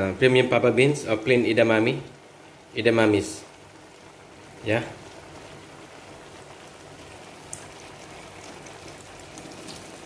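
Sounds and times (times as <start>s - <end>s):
broth bubbling in a wok: 0.0s - 10.0s.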